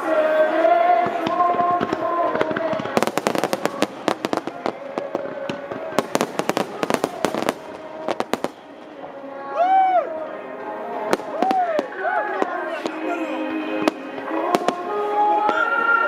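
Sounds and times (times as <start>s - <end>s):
fireworks cracking: 0.0s - 16.0s
music with singing: 0.0s - 16.0s.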